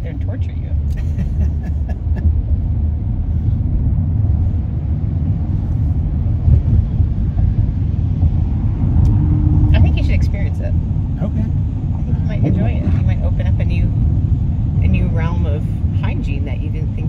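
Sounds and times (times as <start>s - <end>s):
car driving rumble from cabin: 0.0s - 17.0s.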